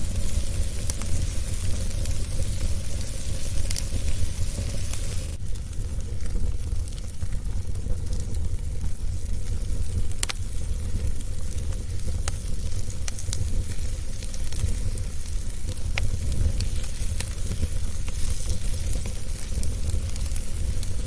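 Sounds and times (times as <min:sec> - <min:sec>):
fire rumbling and hissing: 0:00.0 - 0:21.0
wood crackling and popping: 0:00.0 - 0:21.0.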